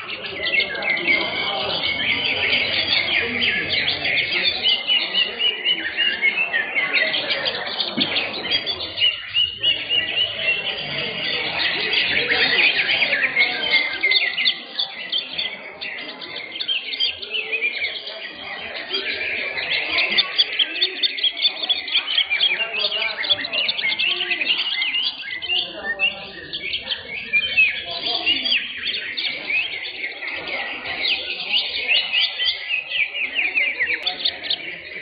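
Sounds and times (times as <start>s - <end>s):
birds chirping and whistling: 0.0s - 35.0s.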